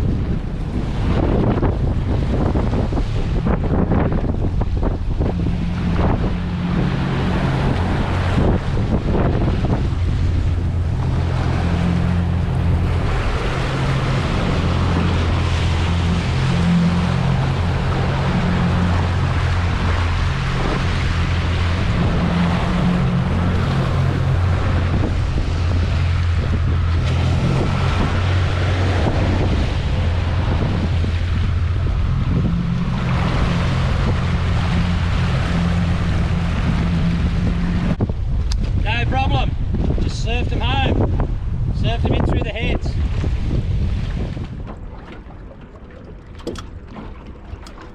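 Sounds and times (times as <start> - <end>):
choppy water: 0.0 - 47.9
wind buffeting microphone: 0.0 - 47.9.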